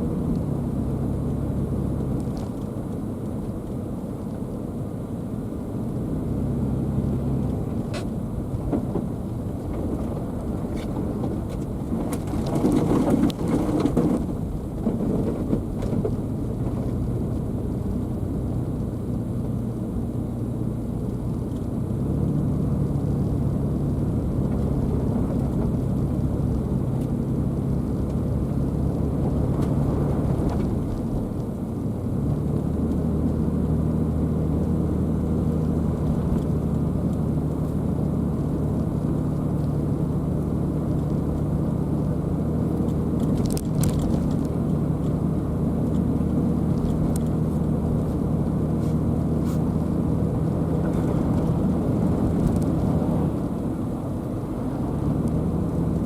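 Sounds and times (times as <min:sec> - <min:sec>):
car engine and tyres humming: 0:00.0 - 0:56.0.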